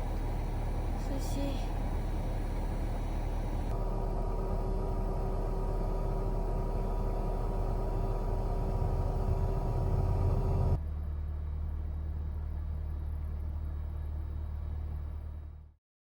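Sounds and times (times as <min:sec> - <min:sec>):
faint steady whine: 0:00.0 - 0:15.0
van engine and road rumble: 0:00.0 - 0:15.8.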